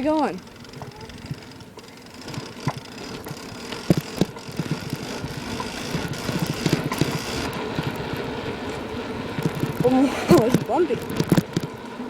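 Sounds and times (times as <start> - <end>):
bicycle frame and chain clunks: 0.0 - 11.8
bicycle rumbling over bumpy ground: 0.0 - 12.0.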